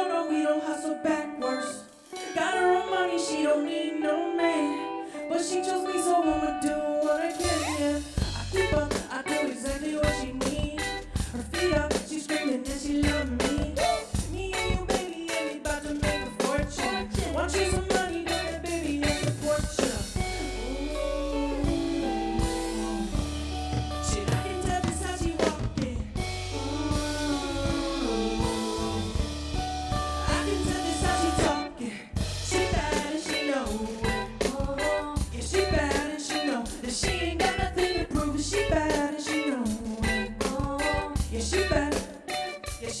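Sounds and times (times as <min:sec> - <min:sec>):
live band music: 0:01.4 - 0:43.0
drum kit beat: 0:07.0 - 0:43.0
bass line: 0:07.3 - 0:43.0.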